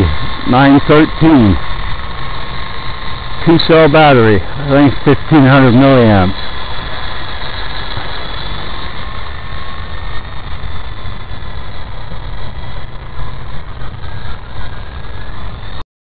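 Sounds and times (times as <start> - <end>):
toy helicopter motor whining: 0.0 - 15.8
wind buffeting microphone: 0.0 - 15.8.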